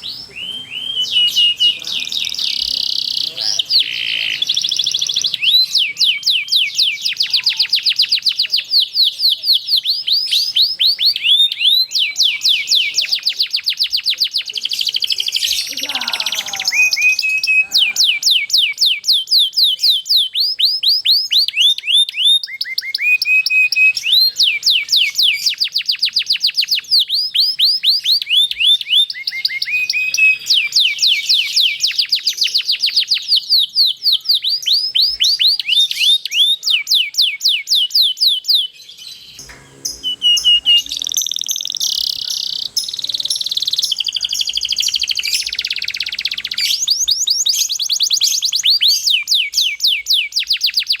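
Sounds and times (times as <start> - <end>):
canary singing rolled trills: 0.0 - 51.0.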